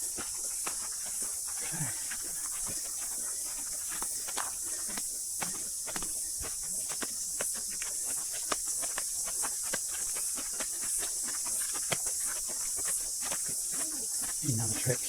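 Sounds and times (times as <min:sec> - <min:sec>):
cicada chorus buzzing: 0:00.0 - 0:15.0.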